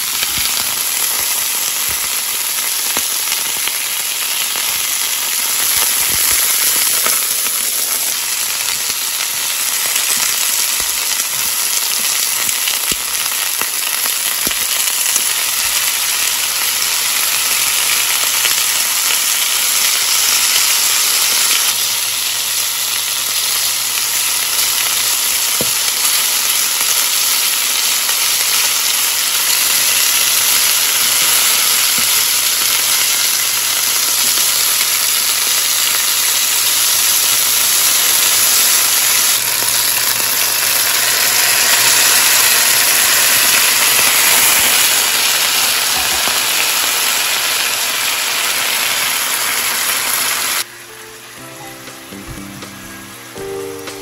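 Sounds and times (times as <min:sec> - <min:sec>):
stir-fry sizzling in frying pan: 0:00.0 - 0:54.0.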